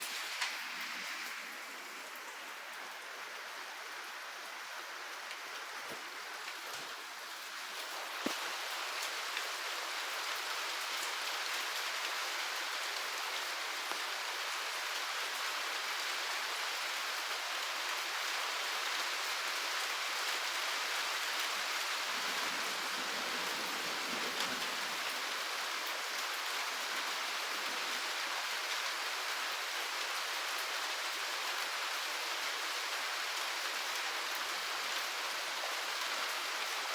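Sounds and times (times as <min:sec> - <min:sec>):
heavy rain: 0:00.0 - 0:36.9.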